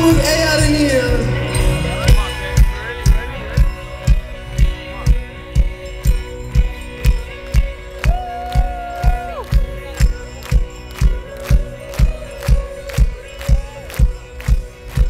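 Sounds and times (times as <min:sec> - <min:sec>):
synth-pop band music: 0:00.0 - 0:15.0.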